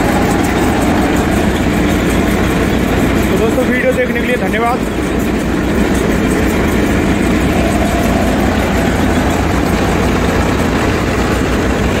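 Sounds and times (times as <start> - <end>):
diesel tractor running under load: 0.0 - 12.0.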